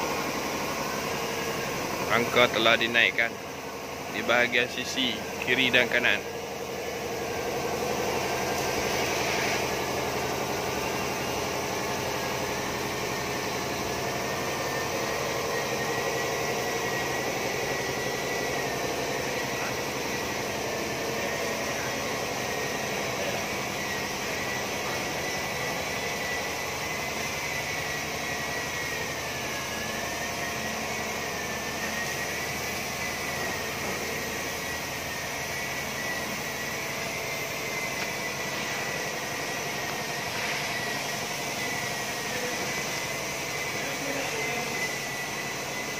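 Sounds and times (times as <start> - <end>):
background hum and hiss: 0.0 - 45.9
faint high wavering whine: 0.0 - 45.9.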